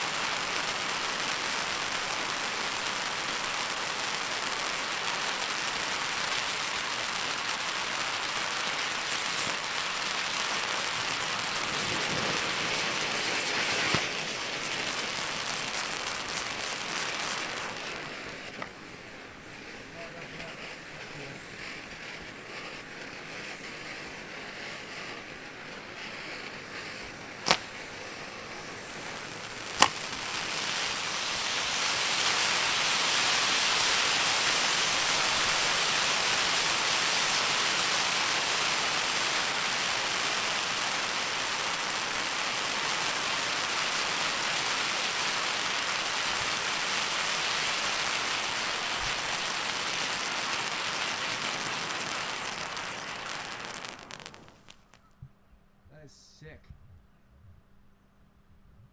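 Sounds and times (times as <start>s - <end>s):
firework hissing sparks: 0.0s - 55.0s
firework sharp pops: 0.0s - 55.2s.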